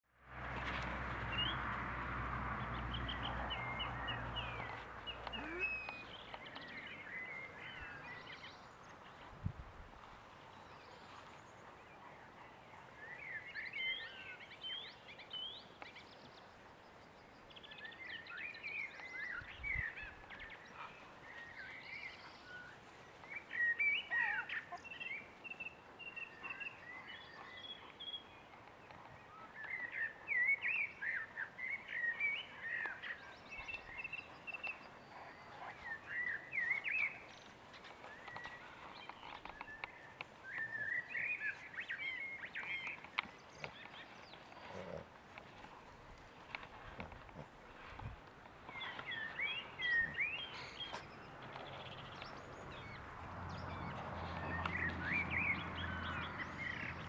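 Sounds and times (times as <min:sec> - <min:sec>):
faint outdoor background noise: 0:00.0 - 0:57.0
small birds chirping: 0:02.6 - 0:57.0.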